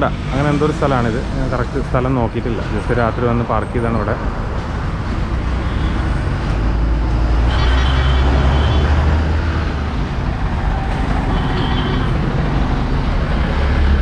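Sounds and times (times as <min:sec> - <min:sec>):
highway traffic passing: 0:00.0 - 0:14.0.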